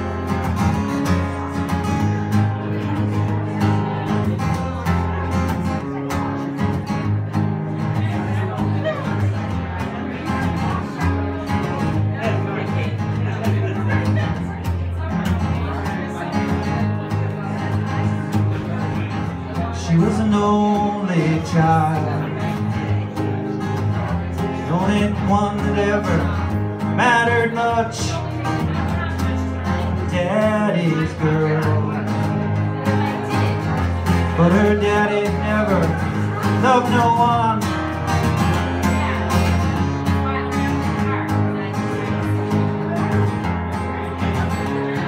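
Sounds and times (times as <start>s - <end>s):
acoustic guitar playing: 0.0s - 45.0s.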